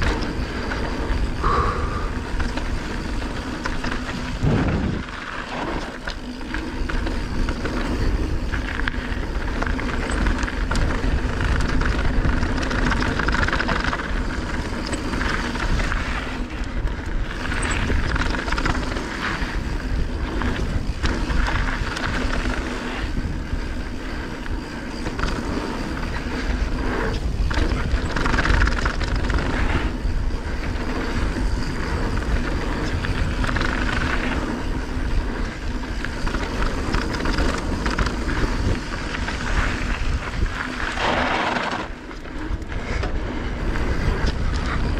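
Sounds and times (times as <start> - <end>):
bike tyres rolling over gravel: 0.0 - 44.9
wind rumbling on microphone: 0.0 - 44.9
bike knocks and rattles: 2.2 - 44.9.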